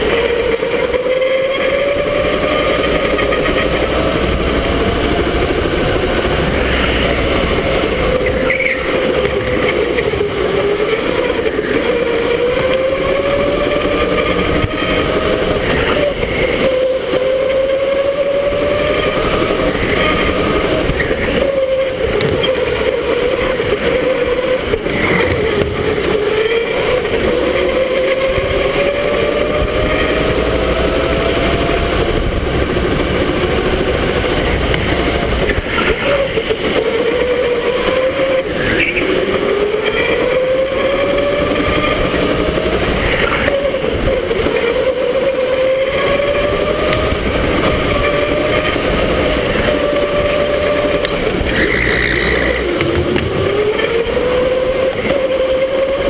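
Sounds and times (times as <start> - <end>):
electric go-kart motor whining: 0.0 - 56.0
wind and tyre noise: 0.0 - 56.0.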